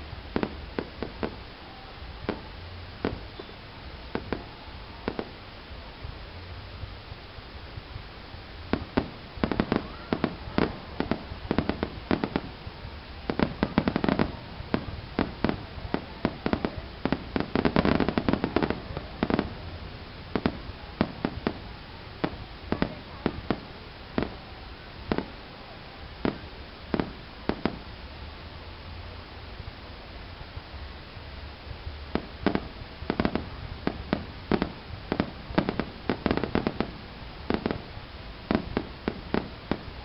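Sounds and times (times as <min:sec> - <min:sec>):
fireworks bangs: 0:00.0 - 0:05.4, 0:08.6 - 0:28.0, 0:32.0 - 0:40.0.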